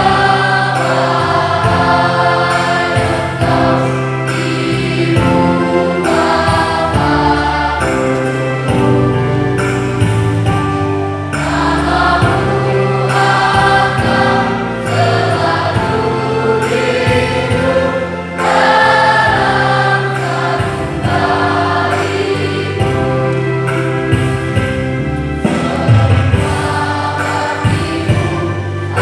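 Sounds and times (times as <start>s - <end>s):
choir singing long notes: 0.0s - 10.5s, 11.3s - 29.0s.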